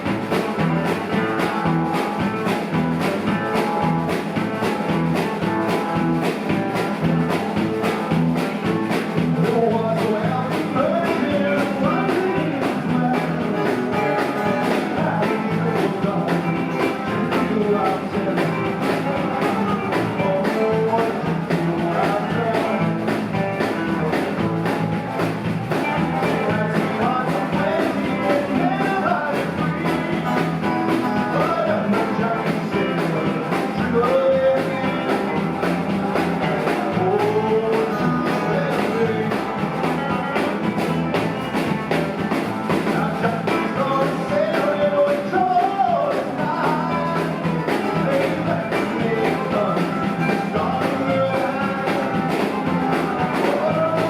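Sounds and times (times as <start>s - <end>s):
steady drum beat: 0.0s - 54.0s
wavering guitar melody: 0.0s - 54.0s.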